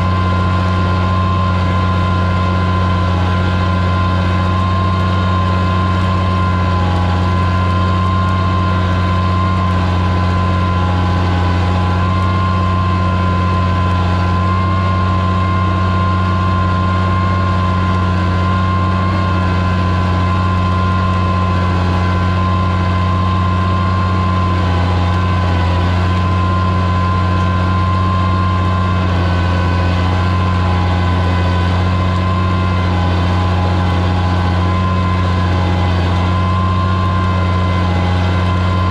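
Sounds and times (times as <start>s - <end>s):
high whine: 0.0s - 38.9s
tractor engine under load: 0.0s - 38.9s.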